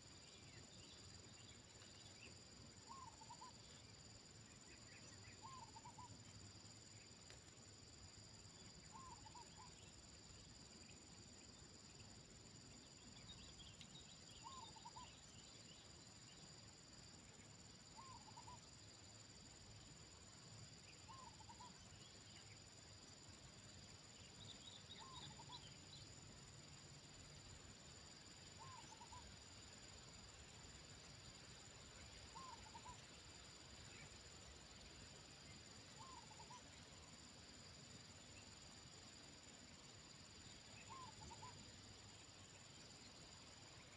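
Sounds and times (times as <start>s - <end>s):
crickets droning: 0.0s - 43.9s.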